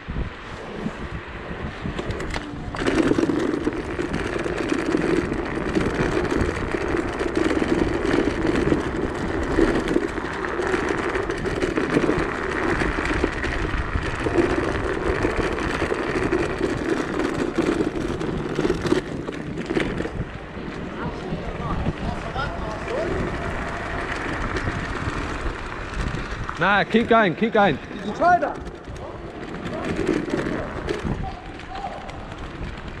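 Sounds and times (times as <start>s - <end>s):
tyre rolling hum: 0.0s - 33.0s
wind rush: 0.0s - 33.0s.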